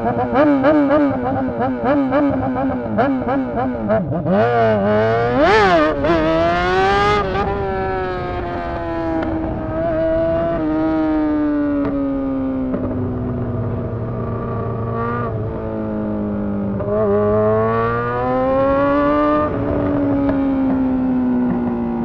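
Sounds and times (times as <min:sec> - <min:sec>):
motorcycle engine revving open header: 0:00.0 - 0:22.0.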